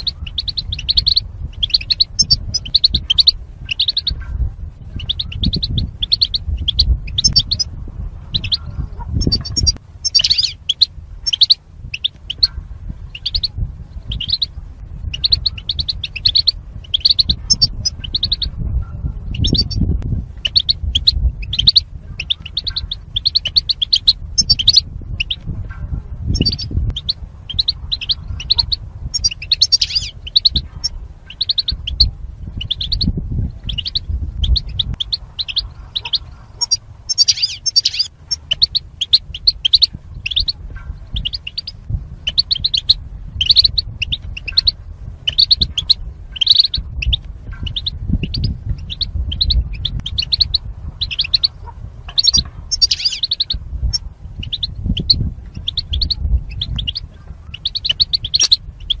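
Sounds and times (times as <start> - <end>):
goldfinch twittering song: 0.0 - 18.6, 19.3 - 19.8, 20.4 - 25.5, 26.3 - 59.0
low rumble: 0.0 - 59.0.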